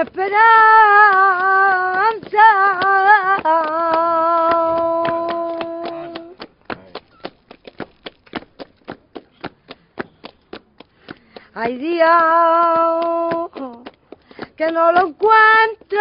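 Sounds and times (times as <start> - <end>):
rhythmic hand clapping: 0.0 - 16.0.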